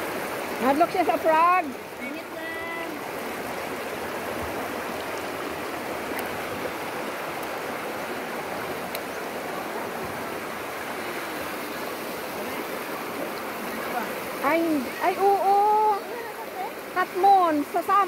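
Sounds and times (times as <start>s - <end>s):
stream rushing over stones: 0.0s - 18.0s.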